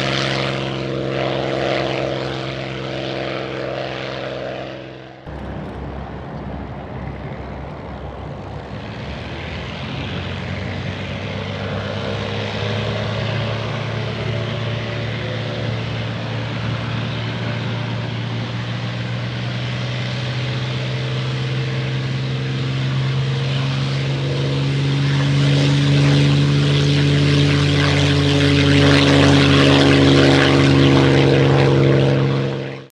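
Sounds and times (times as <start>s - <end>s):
propeller plane piston engine: 0.0s - 32.9s.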